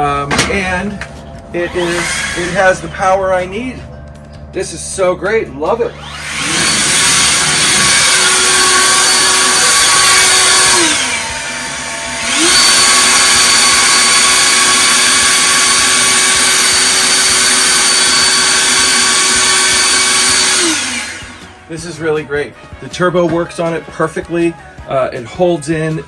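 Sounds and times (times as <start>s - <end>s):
cordless blower fan whine: 0.0s - 22.2s.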